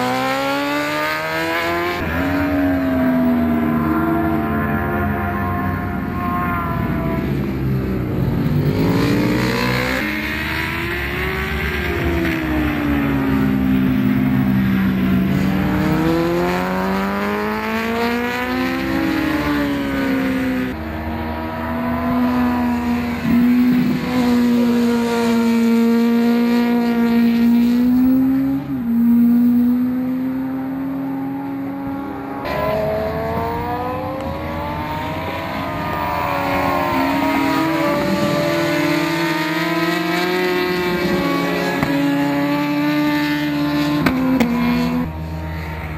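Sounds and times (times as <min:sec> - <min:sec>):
motorcycle engine revving through gears: 0:00.0 - 0:04.7, 0:07.4 - 0:45.9.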